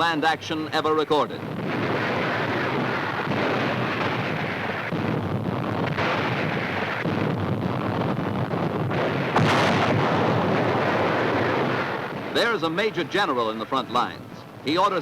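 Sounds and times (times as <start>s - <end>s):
explosions: 1.3s - 15.0s
gunfire: 1.6s - 14.1s.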